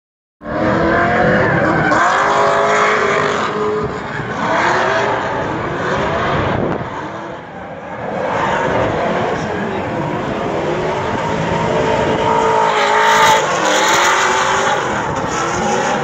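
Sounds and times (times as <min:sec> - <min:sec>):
car engine revving: 0:00.4 - 0:16.0.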